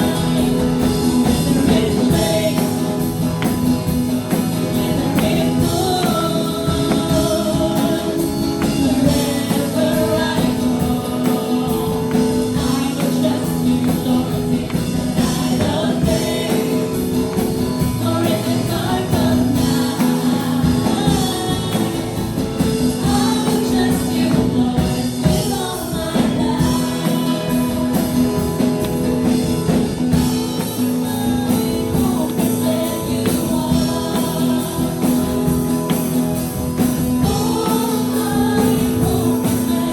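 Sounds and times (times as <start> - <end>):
worship band playing: 0.0 - 39.9.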